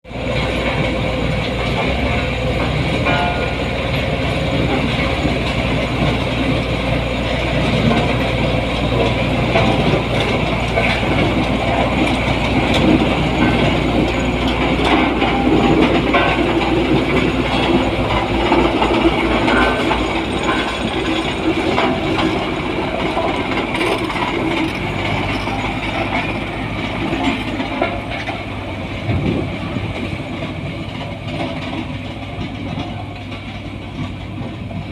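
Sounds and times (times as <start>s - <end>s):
compactor engine hum: 0.1s - 34.9s
mechanical rattling and clattering: 0.4s - 34.9s.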